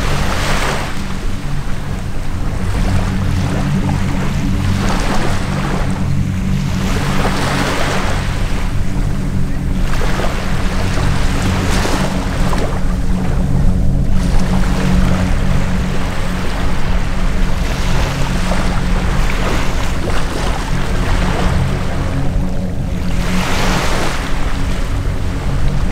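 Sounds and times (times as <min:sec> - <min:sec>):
aircraft droning overhead: 0:00.0 - 0:25.9
wind on microphone: 0:00.0 - 0:25.9.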